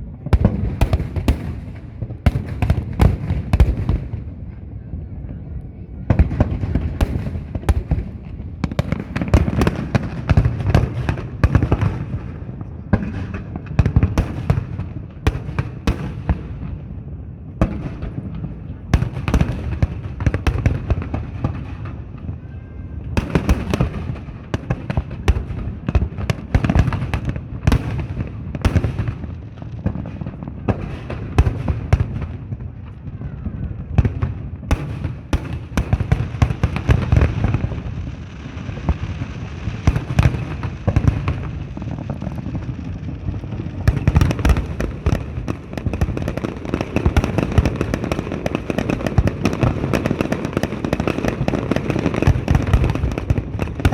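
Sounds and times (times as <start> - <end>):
firework booms and bangs: 0.0 - 53.9
fireworks crackling: 0.2 - 4.8, 6.0 - 53.9.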